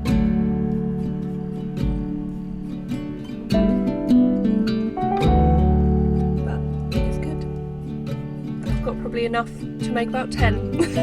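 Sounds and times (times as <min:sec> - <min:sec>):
acoustic guitar strummed and plucked: 0:00.0 - 0:11.0.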